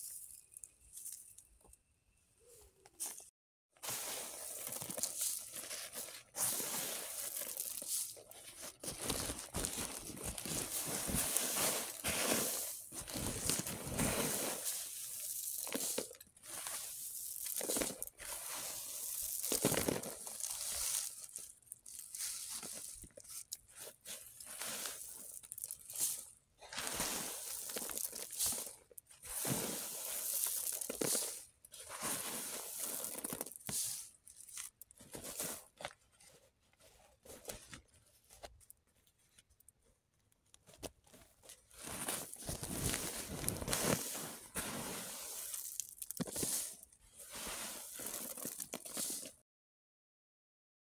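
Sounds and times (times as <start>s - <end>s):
dry crunching rustle of beans: 3.8s - 38.7s, 40.8s - 49.4s.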